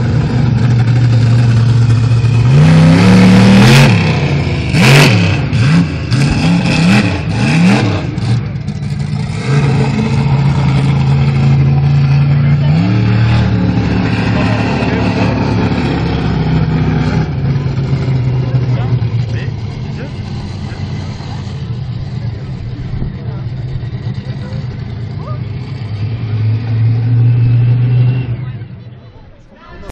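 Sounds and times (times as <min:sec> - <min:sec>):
monster truck engine revving: 0:00.0 - 0:29.9.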